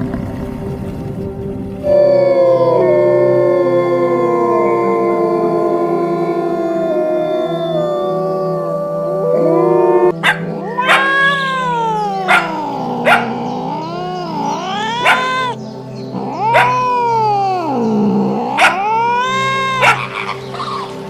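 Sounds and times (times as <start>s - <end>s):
background music: 0.0s - 21.0s
dog howling: 1.9s - 21.0s.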